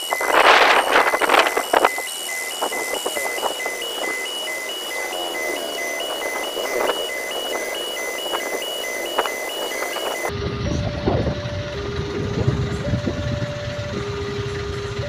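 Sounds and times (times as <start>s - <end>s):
level crossing alarm tones: 0.0s - 15.0s
vehicle engines idling: 0.0s - 15.0s.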